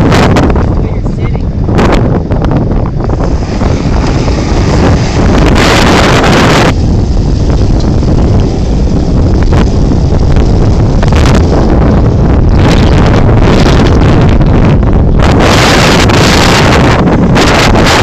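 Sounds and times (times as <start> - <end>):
off-road vehicle engine rumble: 0.0 - 18.0
wind buffeting microphone: 0.0 - 18.0.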